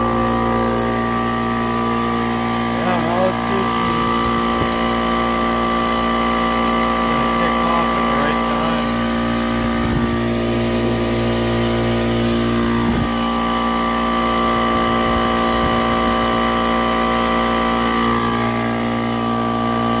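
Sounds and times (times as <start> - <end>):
electric air compressor running: 0.0 - 20.0.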